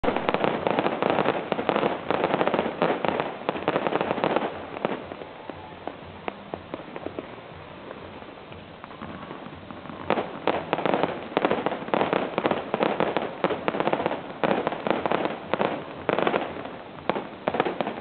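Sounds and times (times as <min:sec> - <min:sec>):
fireworks crackling and banging: 0:00.0 - 0:18.0
steady hiss: 0:00.0 - 0:18.0.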